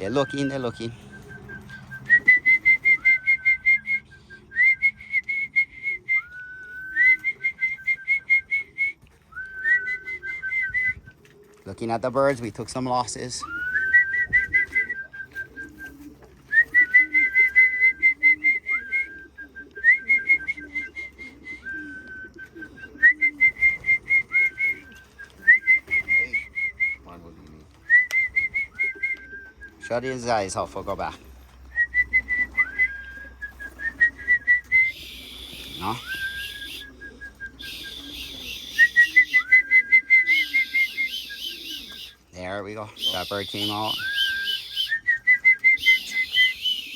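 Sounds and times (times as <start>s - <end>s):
bird whistling phrases: 0.0s - 11.2s, 13.2s - 30.2s, 31.7s - 46.9s
pigeons cooing: 0.0s - 46.9s.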